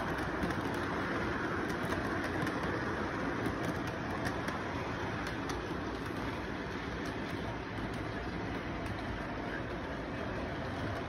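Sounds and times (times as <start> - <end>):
light clicks from wheels: 0.0 - 11.0
model train rumbling on track: 0.0 - 11.0.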